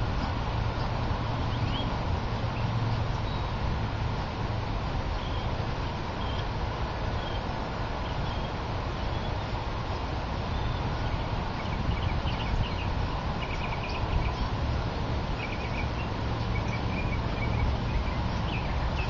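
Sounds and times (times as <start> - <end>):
low outdoor background rumble: 0.0 - 19.0
small birds chirping: 0.7 - 3.6, 5.1 - 6.5, 7.1 - 19.0.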